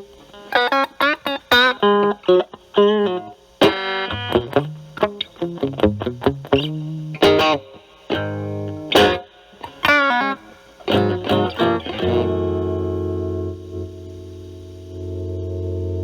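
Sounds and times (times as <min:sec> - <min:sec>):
overdriven electric guitar: 0:00.0 - 0:16.0.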